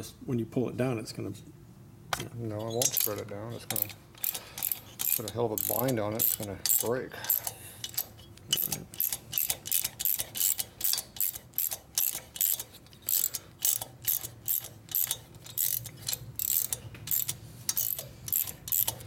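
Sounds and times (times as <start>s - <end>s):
socket ratchet clicking: 2.8s - 19.0s.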